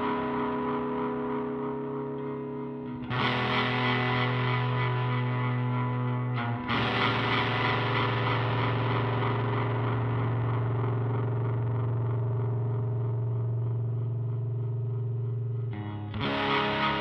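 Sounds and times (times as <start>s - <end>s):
distorted electric guitar drone: 0.0s - 17.0s.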